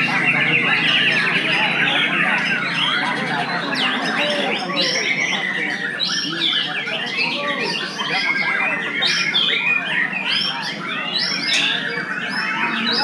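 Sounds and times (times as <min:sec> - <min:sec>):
songbirds singing in chorus: 0:00.0 - 0:13.0.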